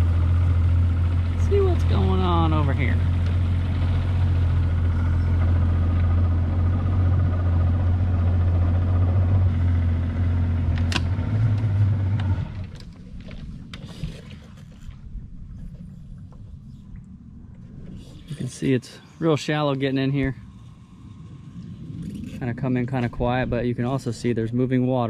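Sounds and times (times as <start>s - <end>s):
outboard motor running: 0.0s - 24.4s.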